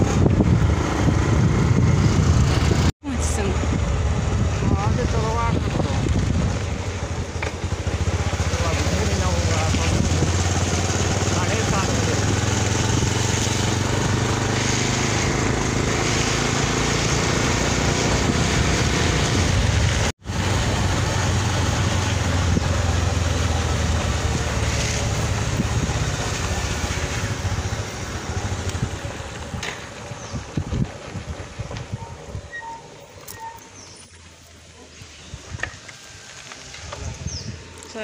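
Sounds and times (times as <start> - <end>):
wind noise on microphone: 0.0 - 8.2, 9.2 - 23.2, 24.4 - 33.9, 34.9 - 38.0
motorcycle engine running: 0.0 - 34.1, 35.2 - 38.0.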